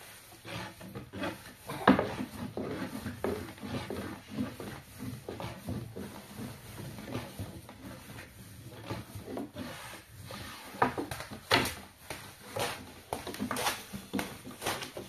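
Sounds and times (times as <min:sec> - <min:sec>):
rubbing and scraping: 0:00.0 - 0:15.0.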